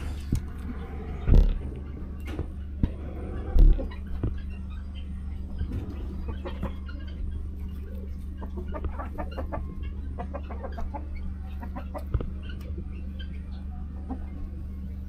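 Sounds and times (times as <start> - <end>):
chickens clucking: 0.0 - 15.0
low hum: 0.0 - 15.0.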